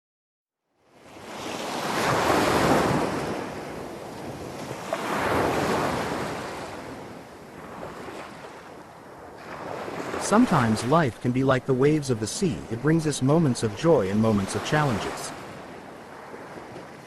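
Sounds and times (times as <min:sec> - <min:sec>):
sea waves washing on shore: 0:00.9 - 0:17.0.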